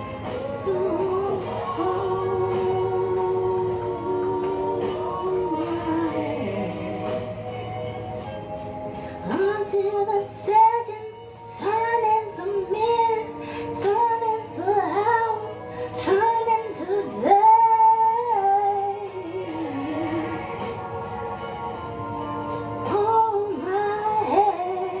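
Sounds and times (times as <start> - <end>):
person singing: 0.0 - 8.3, 9.1 - 22.0, 22.6 - 25.0
instrumental backing: 0.0 - 25.0.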